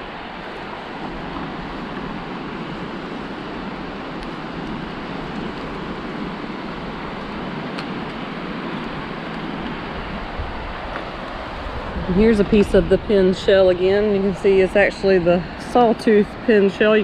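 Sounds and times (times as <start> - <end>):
low surf: 0.0 - 17.0
wind buffeting microphone: 0.0 - 17.0.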